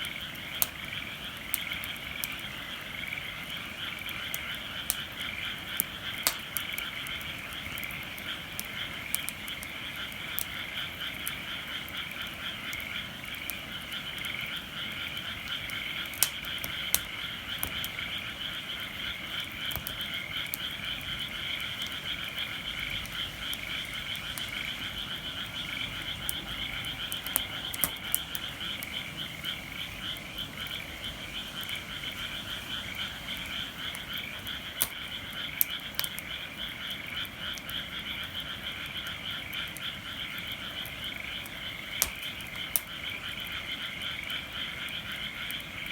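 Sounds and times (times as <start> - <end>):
chorus of frogs croaking: 0.0 - 45.9
firewood cracking: 4.0 - 11.8, 12.7 - 38.1, 38.7 - 45.6.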